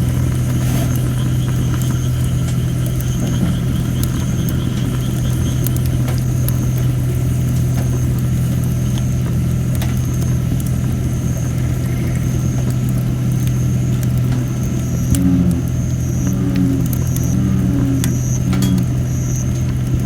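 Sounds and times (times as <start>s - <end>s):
campfire crackling and popping: 0.0s - 20.0s
steady low hum: 0.0s - 20.0s.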